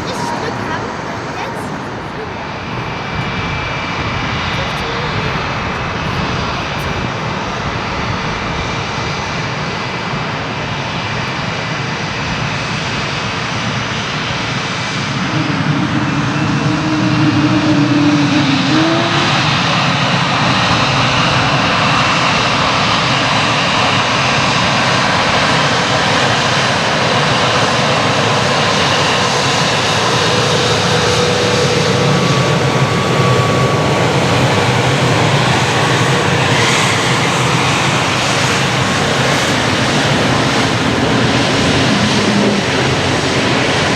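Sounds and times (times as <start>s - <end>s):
jet engine noise: 0.0s - 43.9s.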